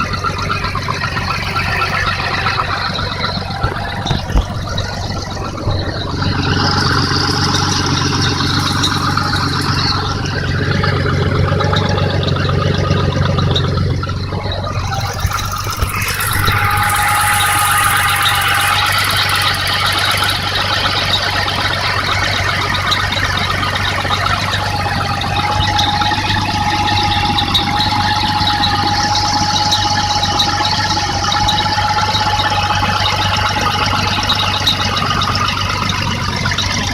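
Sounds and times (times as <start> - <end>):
car engine idling: 0.0 - 36.9
steady high whine: 0.0 - 36.9.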